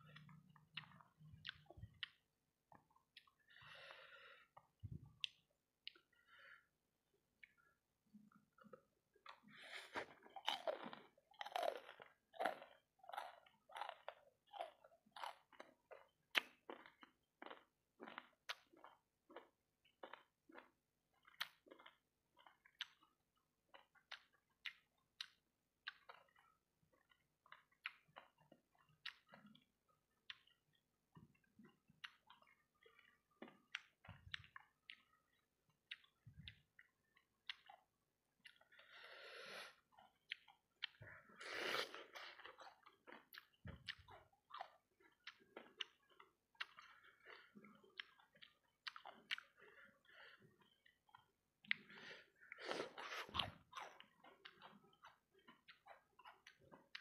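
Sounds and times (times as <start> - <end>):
chewing and lip smacks: 0.0 - 3.5, 7.4 - 38.9, 39.7 - 57.0.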